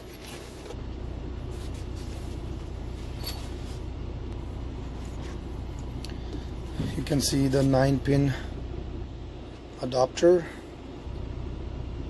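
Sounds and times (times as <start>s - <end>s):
truck diesel engine idling: 0.4s - 12.0s.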